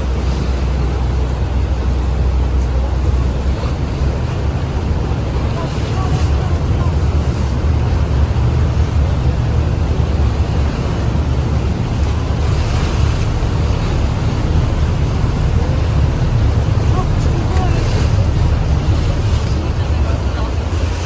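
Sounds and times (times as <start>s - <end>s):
boat engine rumble: 0.0s - 21.0s
rushing sea water: 0.0s - 21.0s
wind buffeting microphone: 0.0s - 21.0s.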